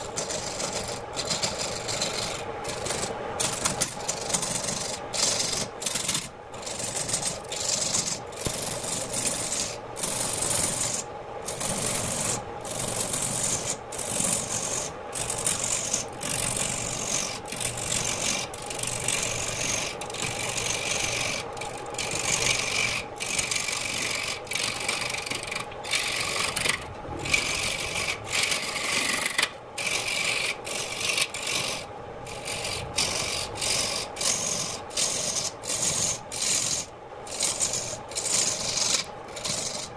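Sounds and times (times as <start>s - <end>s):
lathe humming: 0.0s - 39.9s
lathe tool scraping wood: 0.0s - 39.9s.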